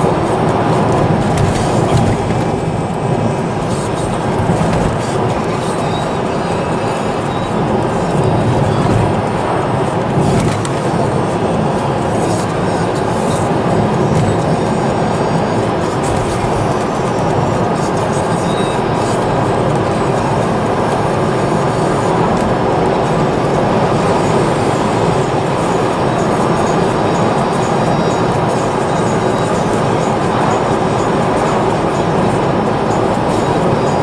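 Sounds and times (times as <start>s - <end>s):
car engine running: 0.0s - 34.0s
tyres rumbling on road: 0.0s - 34.0s.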